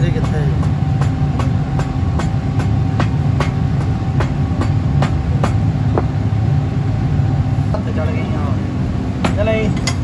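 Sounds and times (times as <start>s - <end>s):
machinery rumbling: 0.0s - 10.0s.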